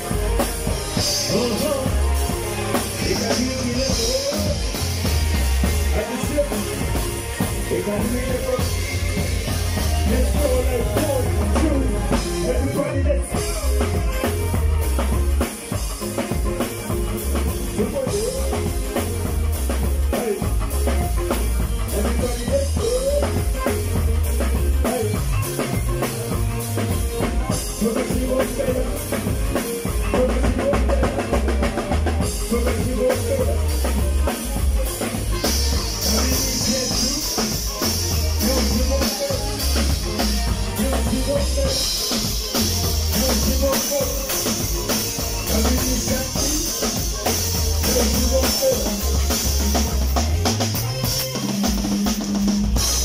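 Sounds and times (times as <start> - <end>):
live band music: 0.0 - 53.0.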